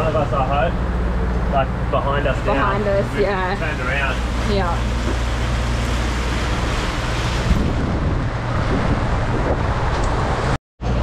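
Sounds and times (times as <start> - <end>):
constant low hum: 0.0 - 11.0
sea rushing past hull: 0.0 - 11.0
wind: 0.0 - 11.0
rain: 1.5 - 11.0.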